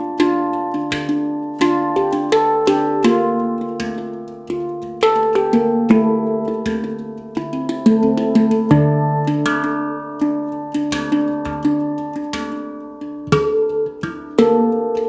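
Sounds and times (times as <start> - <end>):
handpan notes played by hand: 0.0 - 15.0.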